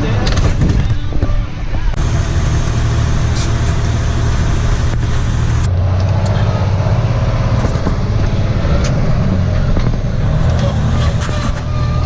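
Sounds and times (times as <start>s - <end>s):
road noise: 0.0s - 12.0s
truck engine: 0.0s - 12.0s.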